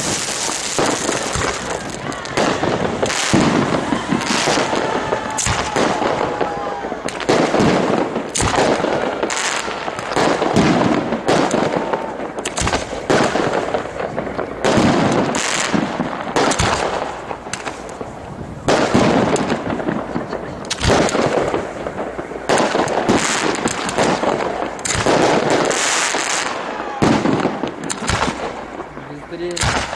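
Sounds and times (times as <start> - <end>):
firework shells bursting: 0.0 - 29.9
fireworks crackling: 0.0 - 29.9.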